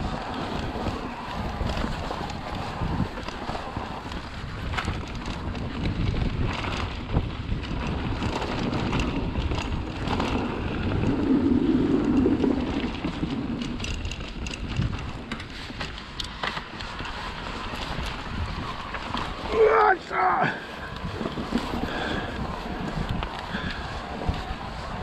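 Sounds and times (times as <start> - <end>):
tyres rolling over stones: 0.0 - 25.0
wind on microphone: 0.0 - 25.0.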